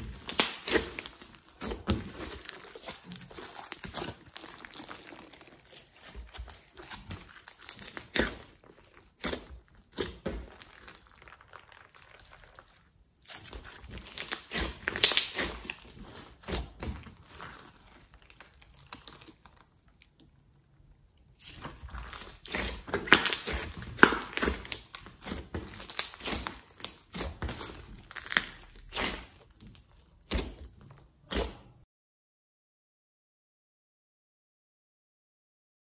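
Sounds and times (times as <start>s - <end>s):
hands squishing slime: 0.0s - 31.8s.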